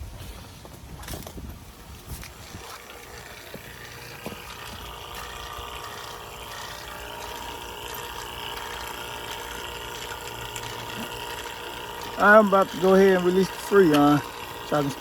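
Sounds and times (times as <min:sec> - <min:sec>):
vacuum pump humming and whining: 0:01.1 - 0:15.0.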